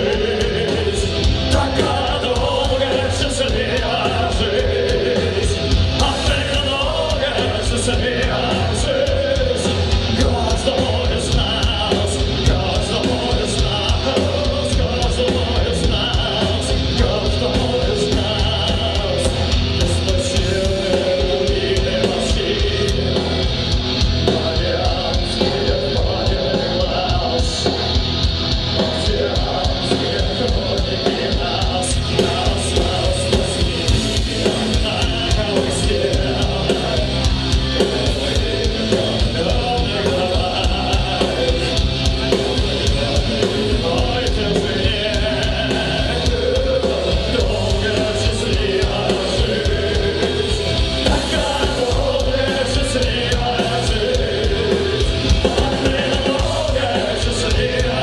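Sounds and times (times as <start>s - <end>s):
man singing: 0.0s - 28.1s, 28.7s - 58.0s
drums: 0.0s - 58.0s
electric guitars: 0.0s - 58.0s.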